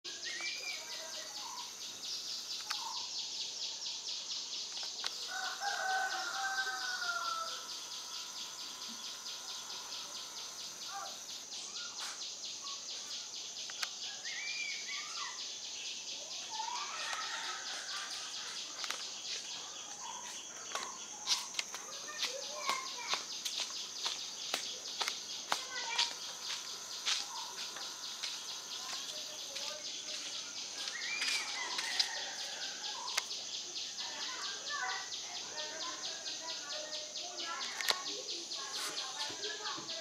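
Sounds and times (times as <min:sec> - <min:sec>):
birds calling: 0:00.0 - 0:40.0
pulsing insect chorus: 0:00.0 - 0:40.0.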